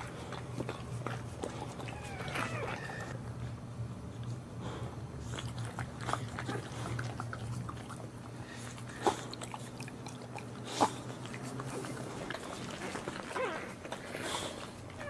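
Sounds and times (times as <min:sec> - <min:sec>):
dog licking and chewing: 0:00.0 - 0:03.2, 0:05.2 - 0:15.0
low steady hum: 0:00.0 - 0:15.0.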